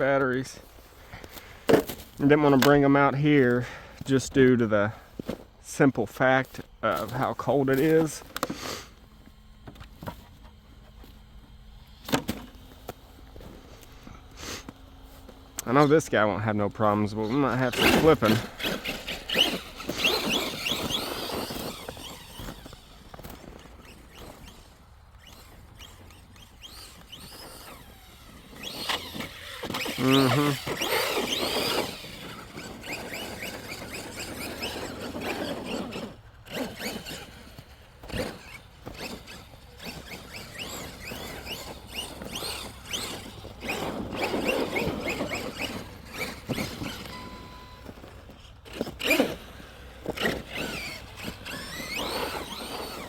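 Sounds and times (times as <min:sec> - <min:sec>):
tyres in snow: 0:00.0 - 0:53.0
electric motor whining: 0:06.4 - 0:53.0.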